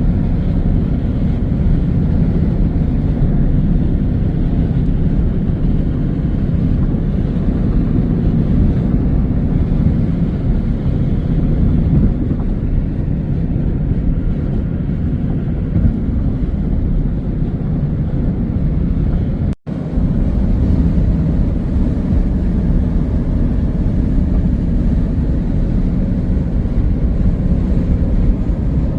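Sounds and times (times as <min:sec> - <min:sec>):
car road and engine noise: 0:00.0 - 0:28.9.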